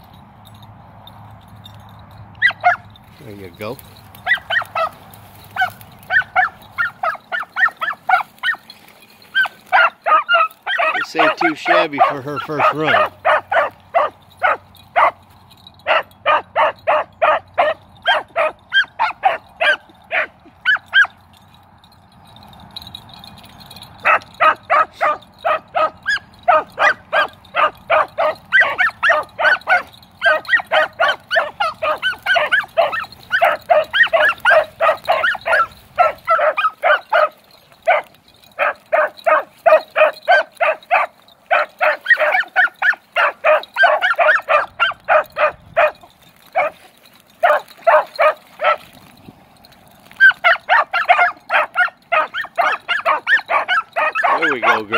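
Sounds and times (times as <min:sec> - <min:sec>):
hounds barking: 0:01.6 - 0:54.9.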